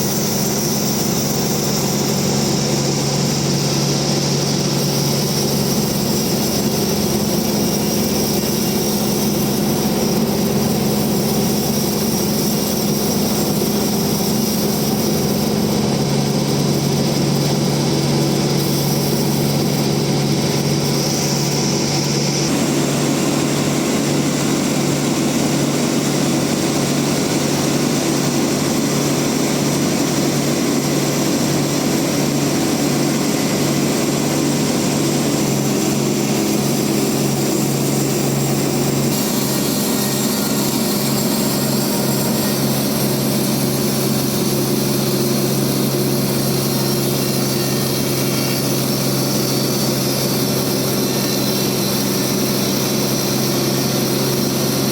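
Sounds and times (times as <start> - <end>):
bandsaw cutting log: 0.0 - 54.9
high whine: 0.0 - 54.9.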